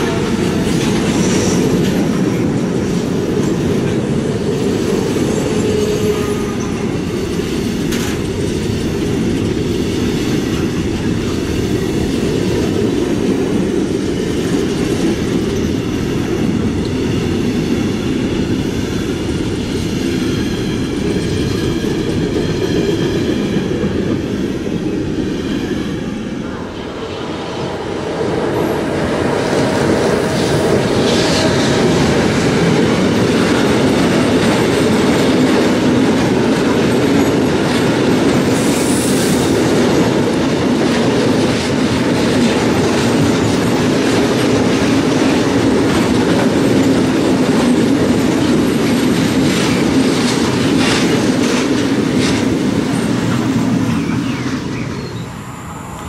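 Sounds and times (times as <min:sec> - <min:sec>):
freight train passing: 0:00.0 - 0:56.0
steel wheels on rails: 0:00.0 - 0:56.0.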